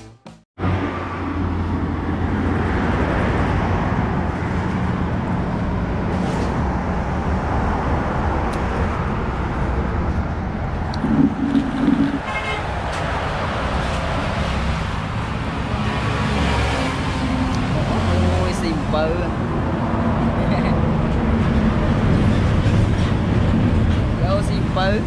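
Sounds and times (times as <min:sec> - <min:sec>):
roadside traffic hum: 0:00.6 - 0:25.0.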